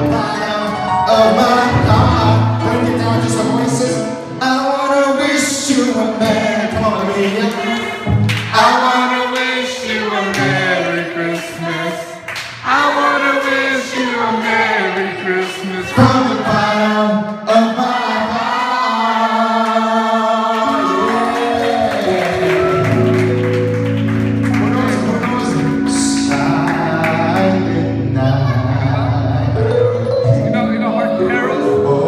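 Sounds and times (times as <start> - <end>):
man singing through pa: 0.0 - 23.1, 25.0 - 30.6.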